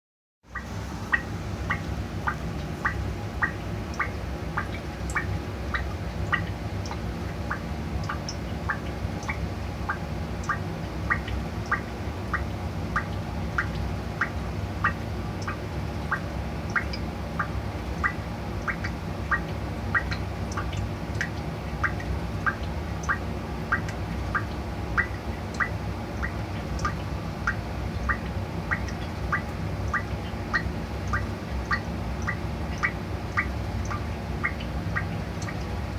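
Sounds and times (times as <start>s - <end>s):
low steady hum: 0.5s - 35.9s
water dripping on floor: 0.6s - 35.8s.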